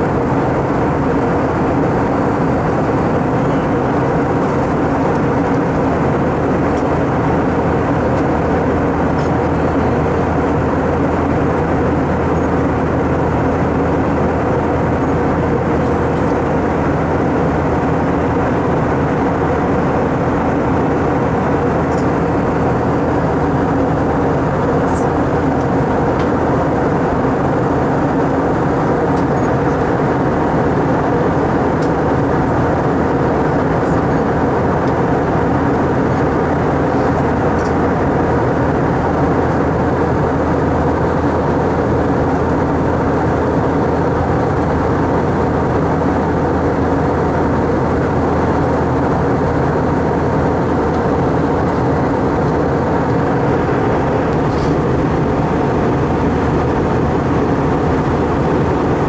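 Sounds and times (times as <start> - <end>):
airliner cabin noise: 0.0 - 59.0
constant hum tones: 0.0 - 59.0.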